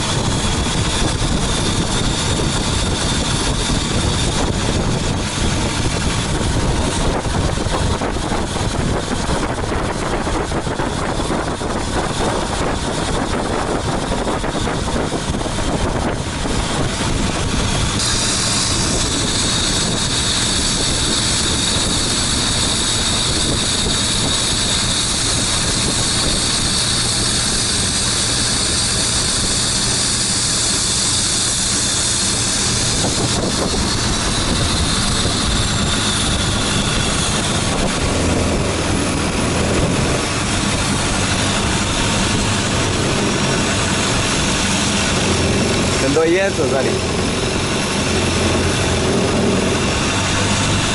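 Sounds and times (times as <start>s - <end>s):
motorboat engine running: 0.0s - 50.9s.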